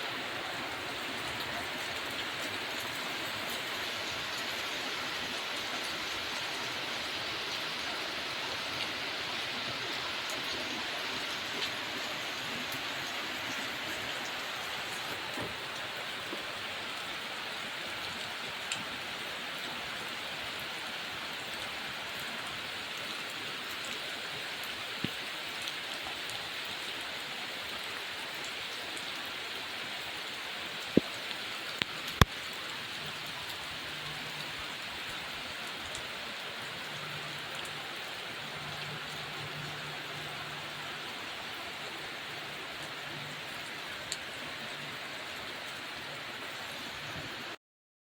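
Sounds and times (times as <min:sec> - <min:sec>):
heavy rain: 0:00.0 - 0:47.6.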